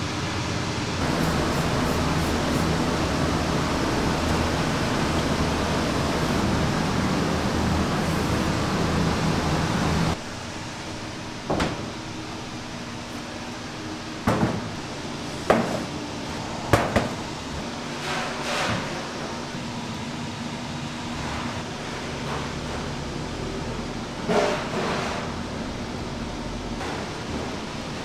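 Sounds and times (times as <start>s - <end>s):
kitchen ventilation rushing: 0.0s - 28.0s.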